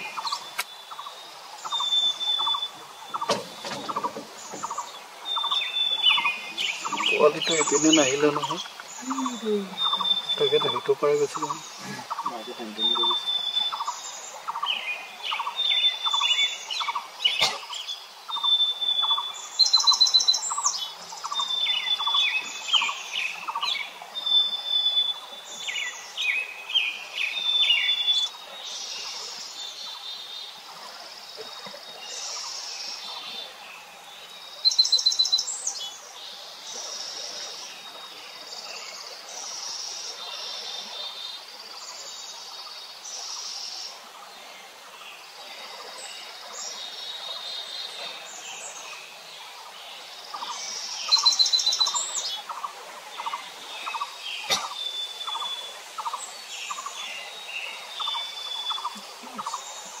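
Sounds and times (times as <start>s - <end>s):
birds singing and calling: 0.0s - 60.0s.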